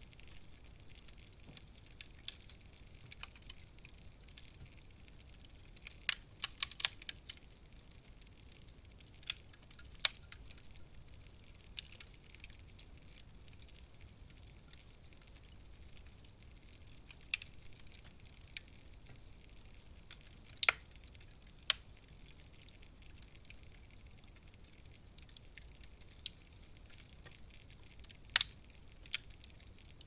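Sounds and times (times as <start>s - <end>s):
soft low hiss: 0.0s - 30.0s
wood fire crackling: 0.0s - 30.0s.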